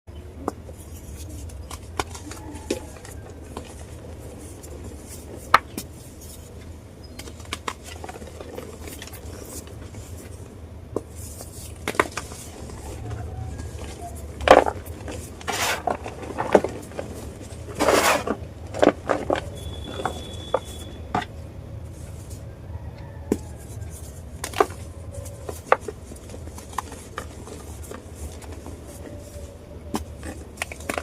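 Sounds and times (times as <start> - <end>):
steady low hum: 0.1 - 31.0.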